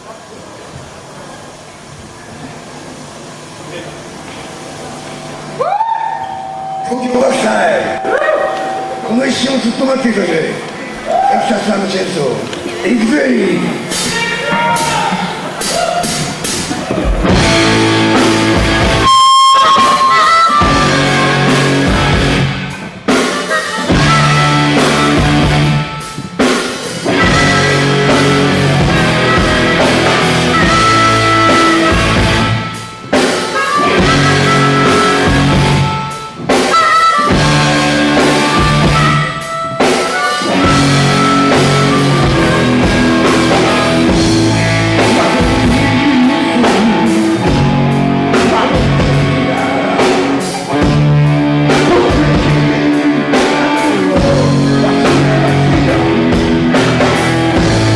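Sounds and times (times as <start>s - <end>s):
rock band playing live: 6.2s - 57.9s.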